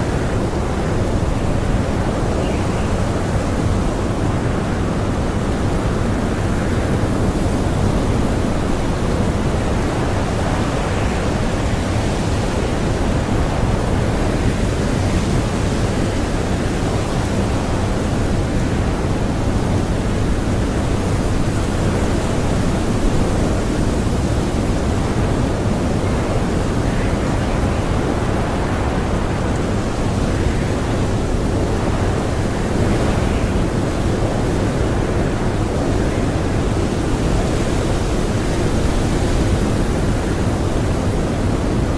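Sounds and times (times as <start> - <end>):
blizzard wind blowing: 0.0 - 41.9.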